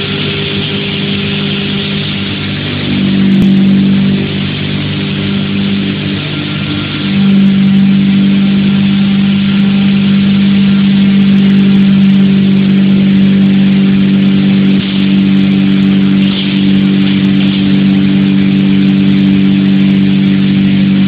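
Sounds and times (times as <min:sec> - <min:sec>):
hammer mill grinding grain: 0:00.0 - 0:21.0.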